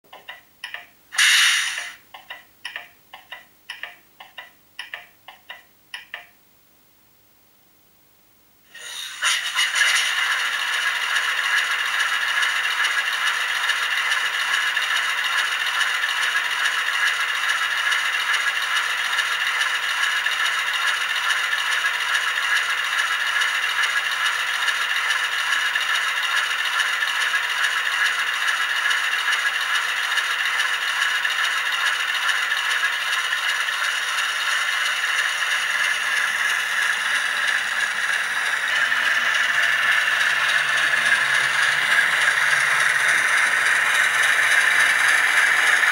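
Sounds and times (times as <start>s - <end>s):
model locomotive engine sound: 0.1s - 6.2s, 8.7s - 45.9s.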